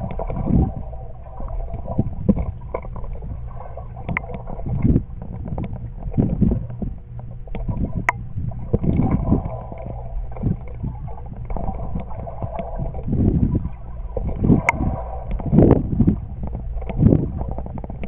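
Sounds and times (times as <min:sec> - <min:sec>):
sharp underwater clicks: 0:00.0 - 0:18.0
underwater water movement rumble: 0:00.0 - 0:18.0.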